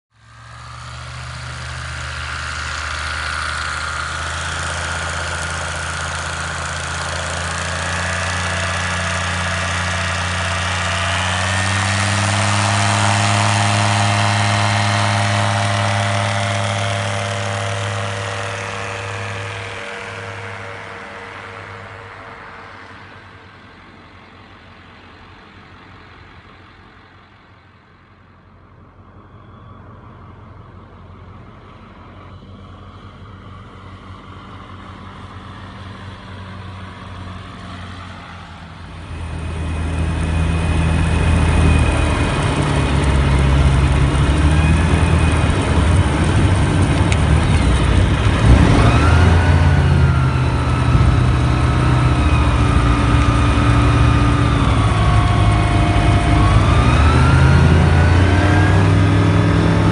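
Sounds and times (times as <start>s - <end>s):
light plane engine and propeller: 0.1s - 59.9s.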